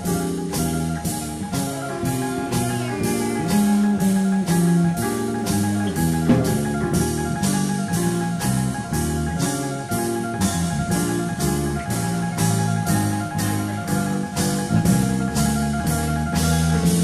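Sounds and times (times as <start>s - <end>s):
big band playing swing: 0.0s - 17.0s.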